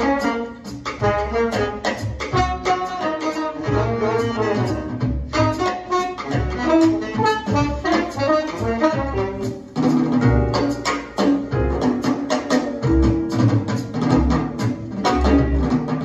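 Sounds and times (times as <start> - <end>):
saxophone melody: 0.0 - 12.0, 14.2 - 16.0
walking bass: 0.0 - 16.0.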